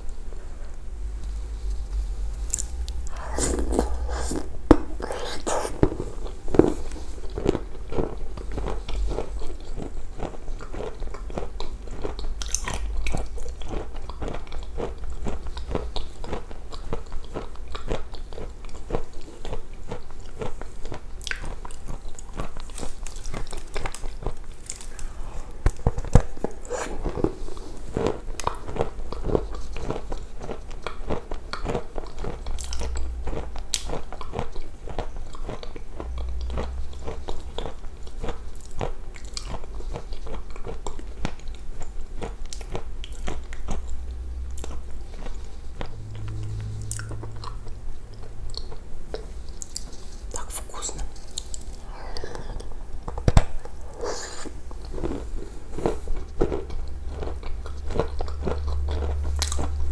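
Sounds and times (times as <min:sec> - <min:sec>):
person chewing food: 0:01.1 - 0:59.9.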